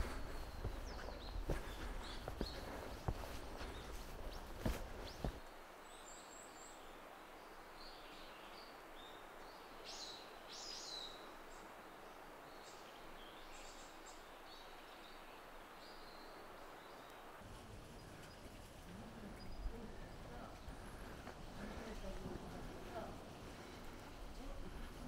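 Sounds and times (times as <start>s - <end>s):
birds chirping faintly: 0.0s - 25.0s
steady outdoor hiss: 0.0s - 25.0s.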